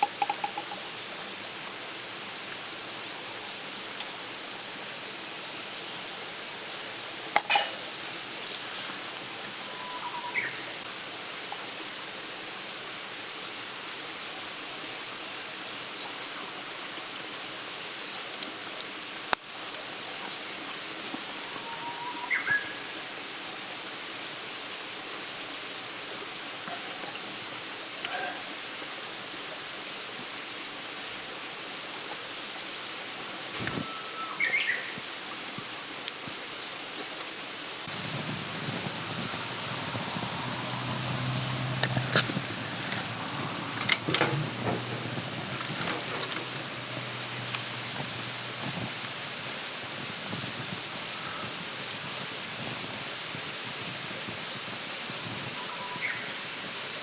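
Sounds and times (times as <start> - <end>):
campfire crackles: 0.0 - 57.0
outdoor night ambience hiss: 0.0 - 57.0.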